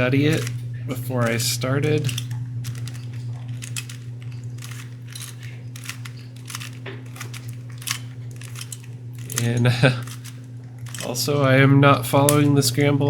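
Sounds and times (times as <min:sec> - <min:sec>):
puzzle cube plastic clicks: 0:00.0 - 0:11.3
steady low hum: 0:00.0 - 0:13.0.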